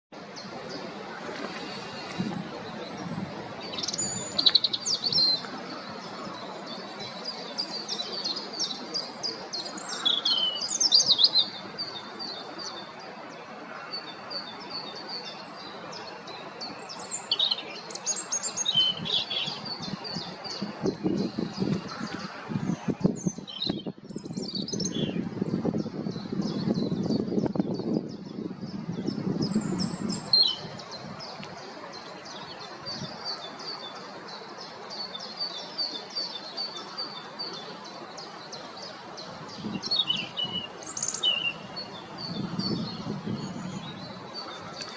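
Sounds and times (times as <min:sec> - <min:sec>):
robin singing: 0:00.4 - 0:13.0, 0:13.8 - 0:44.9.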